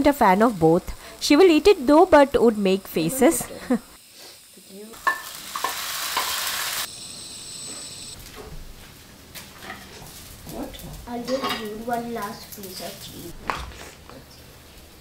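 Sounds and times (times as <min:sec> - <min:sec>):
batter sizzling on a hot griddle: 0:00.0 - 0:13.3.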